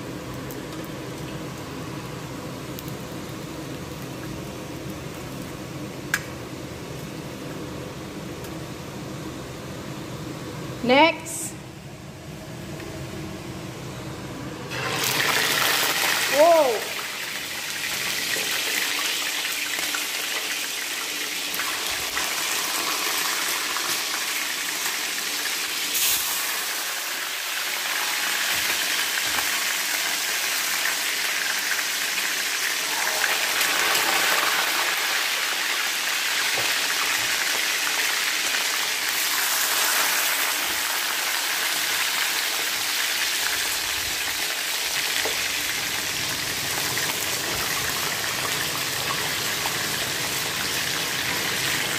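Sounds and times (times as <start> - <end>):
chicken frying in hot oil: 0.0 - 7.6, 14.7 - 51.9.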